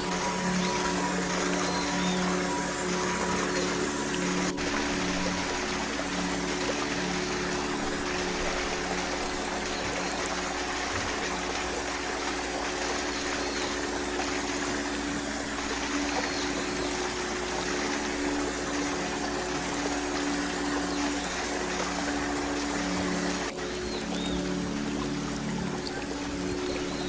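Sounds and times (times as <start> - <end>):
low hum: 0.0 - 27.0
water trickling: 0.0 - 27.0.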